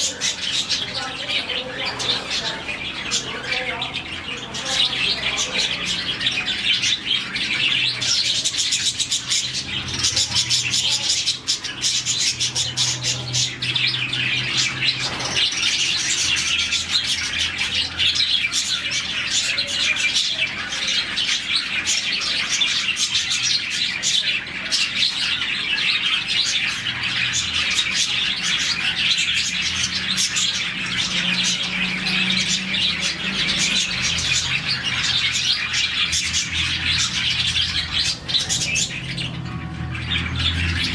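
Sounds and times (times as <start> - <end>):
budgerigars chirping and twittering: 0.0 - 40.9.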